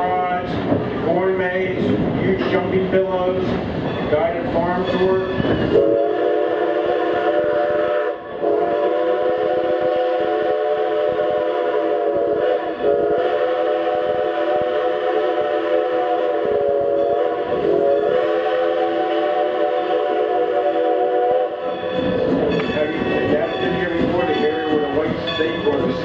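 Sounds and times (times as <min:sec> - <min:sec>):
steam locomotive whistle chord: 0:04.8 - 0:26.0.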